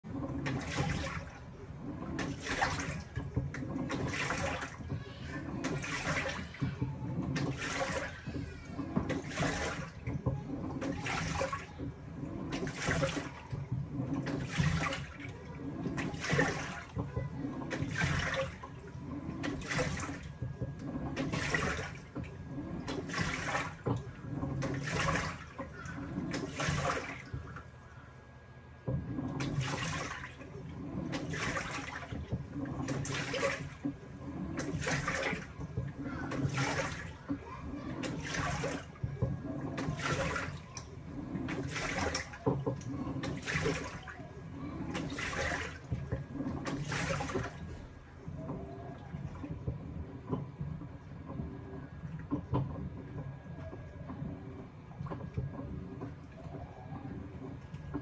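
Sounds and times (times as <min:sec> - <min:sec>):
washing machine churning water: 0:00.0 - 0:58.0.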